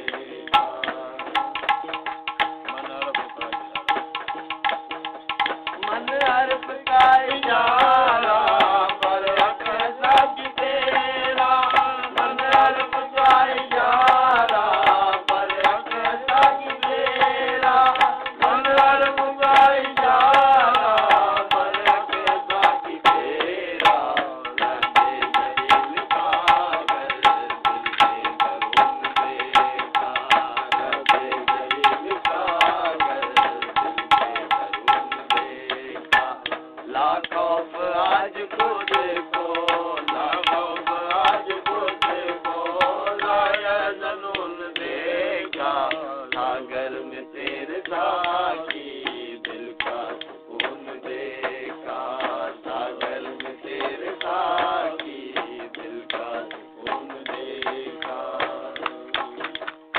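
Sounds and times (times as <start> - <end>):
devotional song: 0.0 - 59.9
tabla fast beat: 0.0 - 59.9.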